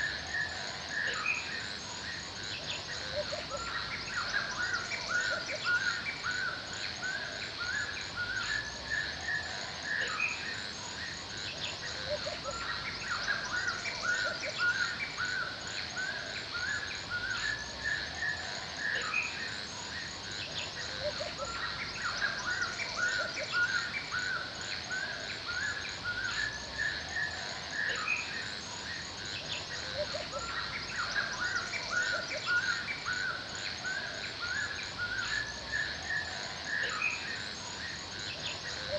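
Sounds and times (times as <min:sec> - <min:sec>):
birds singing: 0:00.0 - 0:38.9
high chirring of insects: 0:00.0 - 0:38.9.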